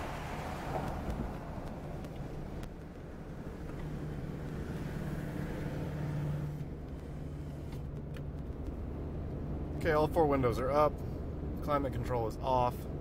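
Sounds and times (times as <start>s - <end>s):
car engine drone: 0.0s - 13.0s
tyres on road: 0.0s - 13.0s.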